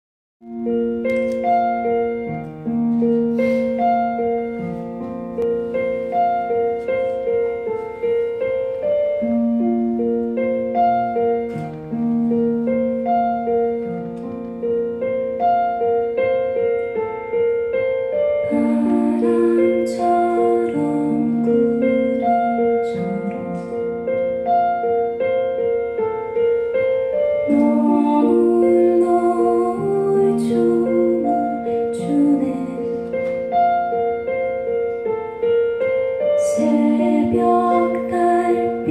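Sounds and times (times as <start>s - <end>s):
piano broken-chord figure: 0.4s - 38.9s.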